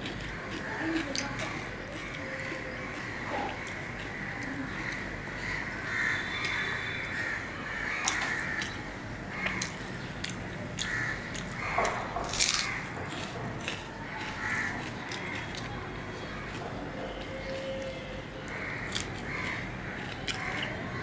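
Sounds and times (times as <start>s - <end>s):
crows cawing: 0.2s - 9.9s, 10.8s - 13.2s, 14.0s - 16.6s, 18.5s - 21.0s.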